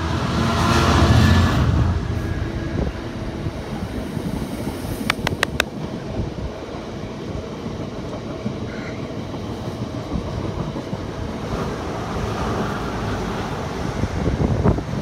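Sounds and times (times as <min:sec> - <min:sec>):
freight train wheels rumbling: 0:00.0 - 0:15.0
passenger train passing: 0:00.0 - 0:15.0.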